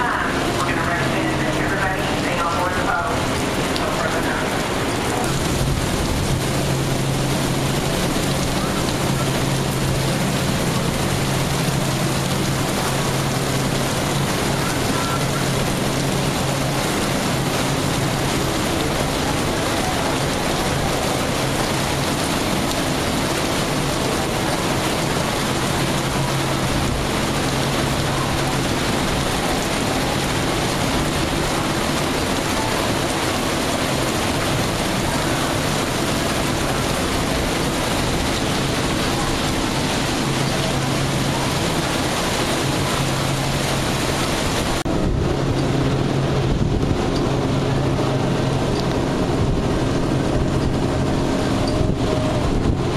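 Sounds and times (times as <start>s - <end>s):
heavy rain on wet pavement: 0.0s - 52.9s.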